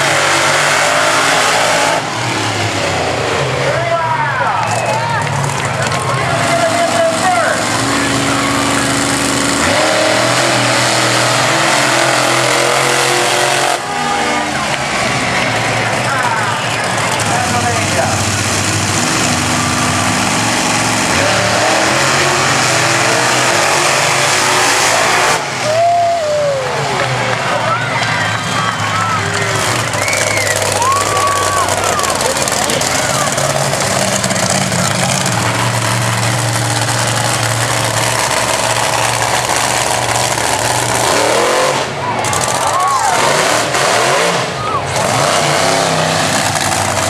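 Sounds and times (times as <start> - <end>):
monster truck engine revving: 0.0 - 47.0.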